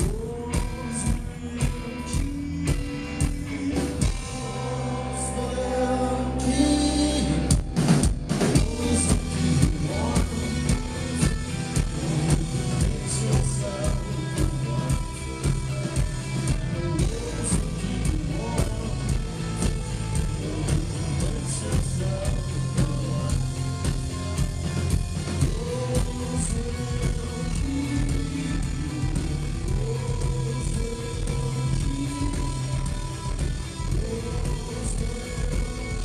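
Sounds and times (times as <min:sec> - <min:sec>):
drum kit beat: 0:00.0 - 0:04.8, 0:07.4 - 0:36.0
electric guitar: 0:00.0 - 0:36.0
male lead vocal: 0:00.0 - 0:36.0.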